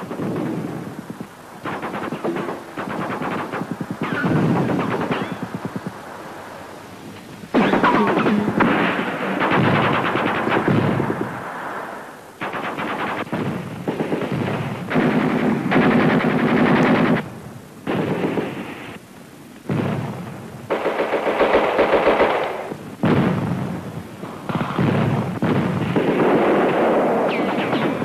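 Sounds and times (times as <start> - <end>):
machine-gun fire: 0.0 - 5.8, 7.5 - 11.4, 12.4 - 18.9, 19.7 - 28.0.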